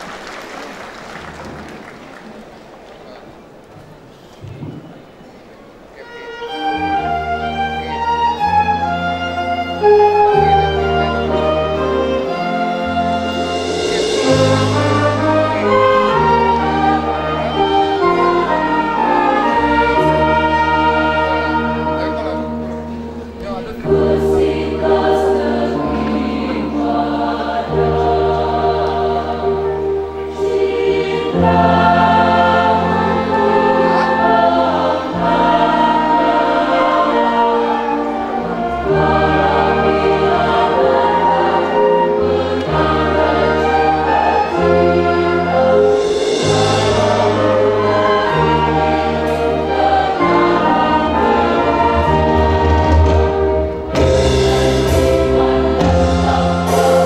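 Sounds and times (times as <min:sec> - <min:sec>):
flutes violins and keyboard: 0:01.6 - 0:57.0
choir singing a hymn: 0:06.0 - 0:57.0.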